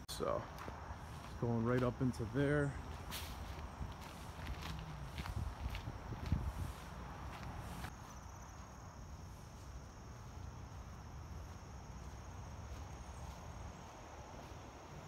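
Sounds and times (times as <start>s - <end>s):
insects trilling: 0.2s - 15.0s.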